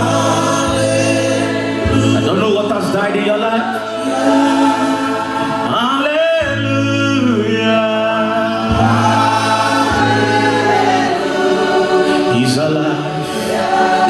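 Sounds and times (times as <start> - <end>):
choir singing: 0.0 - 14.0
held keyboard pad: 0.0 - 14.0.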